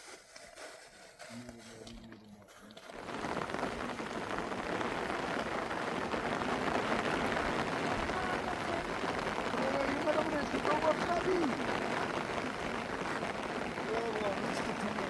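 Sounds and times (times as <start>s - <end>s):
heavy rain falling: 2.8s - 15.0s.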